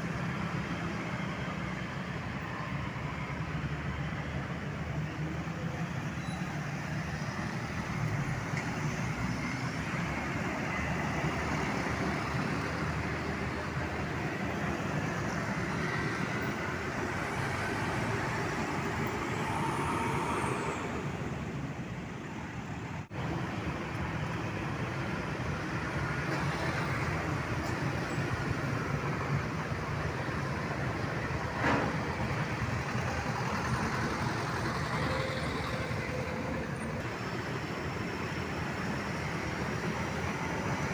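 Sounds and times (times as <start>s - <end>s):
road traffic: 0.0s - 40.9s
trucks and buses passing: 0.0s - 40.9s.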